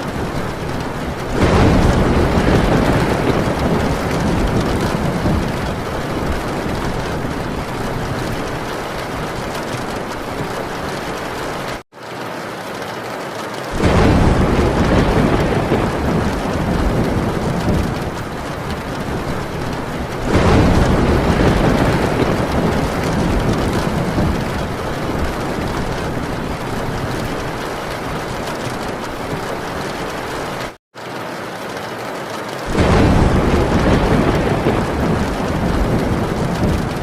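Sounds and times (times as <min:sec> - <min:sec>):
rolling thunder: 0:00.0 - 0:11.8, 0:13.8 - 0:30.8, 0:32.7 - 0:37.0
heavy rain on a tin roof: 0:00.0 - 0:37.0.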